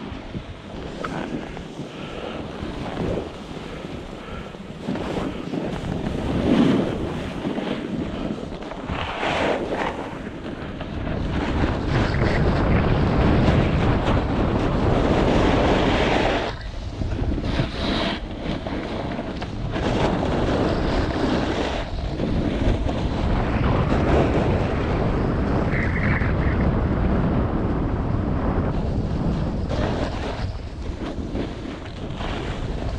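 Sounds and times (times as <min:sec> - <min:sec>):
snowboard scraping snow: 0:00.0 - 0:32.9
wind on microphone: 0:00.0 - 0:32.9.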